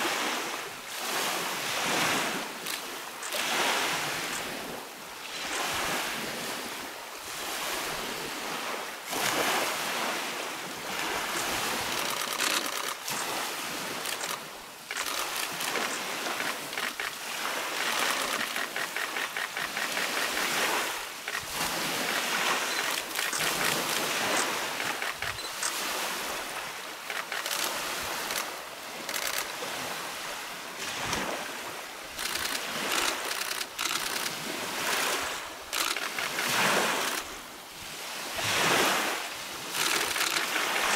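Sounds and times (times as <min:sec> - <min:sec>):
waves breaking on shingle shore: 0:00.0 - 0:40.9.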